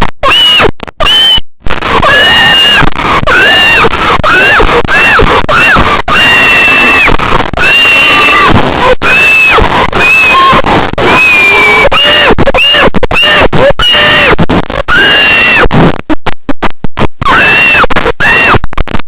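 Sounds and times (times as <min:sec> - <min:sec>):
distorted high-pitched screaming: 0:00.0 - 0:16.1, 0:17.0 - 0:18.9
harsh noisy haze: 0:00.0 - 0:18.6.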